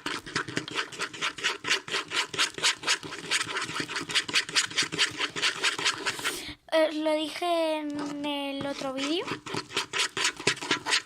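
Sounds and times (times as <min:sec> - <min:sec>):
slime rubbing and scraping: 0:00.0 - 0:06.5, 0:07.2 - 0:11.0.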